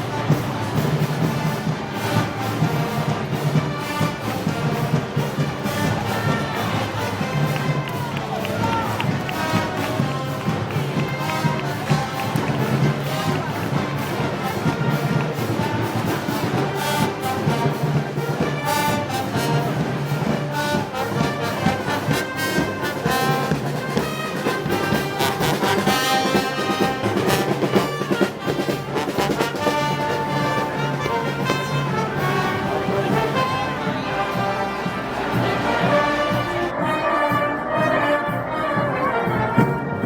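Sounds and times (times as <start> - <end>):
drum beats: 0.0 - 38.8
brass band playing: 0.0 - 40.0
trombones and trumpets: 0.0 - 40.0.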